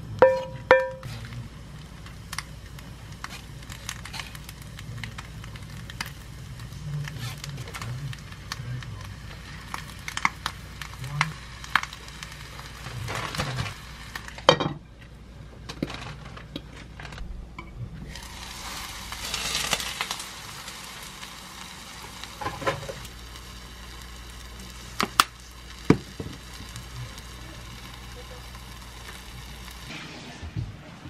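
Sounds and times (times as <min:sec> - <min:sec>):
food sizzling in hot pot: 0:00.0 - 0:14.8, 0:18.0 - 0:30.3.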